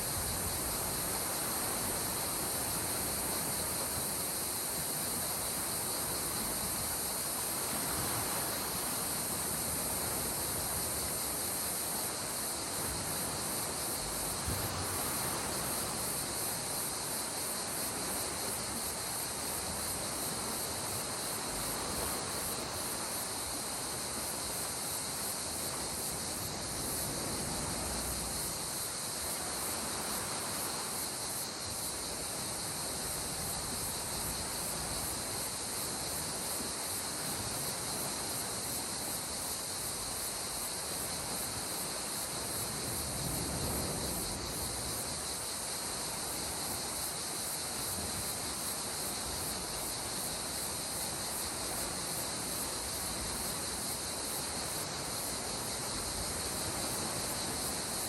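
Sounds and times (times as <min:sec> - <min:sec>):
gentle sea waves: 0:00.0 - 0:58.0
high-pitched insect chorus: 0:00.0 - 0:58.0.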